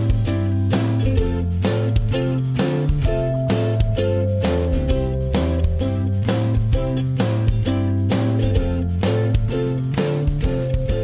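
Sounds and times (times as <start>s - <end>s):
strummed guitar chords: 0.0s - 11.0s.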